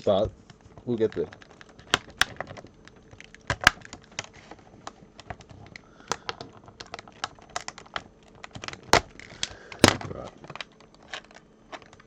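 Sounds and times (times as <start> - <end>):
plastic clicking and snapping: 0.5 - 12.0.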